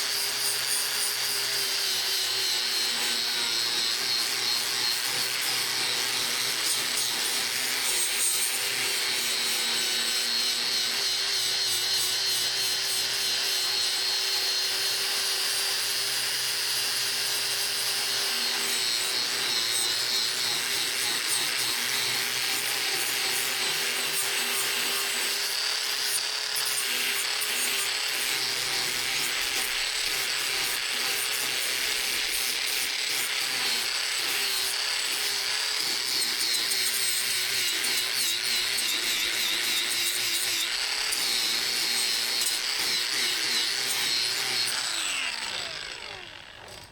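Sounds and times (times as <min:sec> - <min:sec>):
power tool grinding metal: 0:00.0 - 0:46.9.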